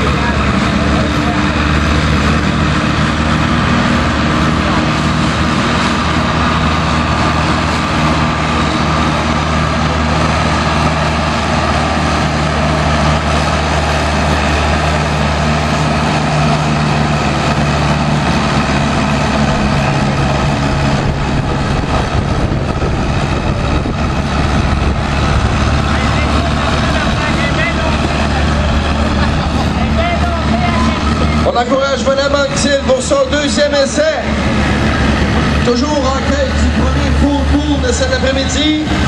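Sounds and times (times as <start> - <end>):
tractor engine under load: 0.0 - 39.0.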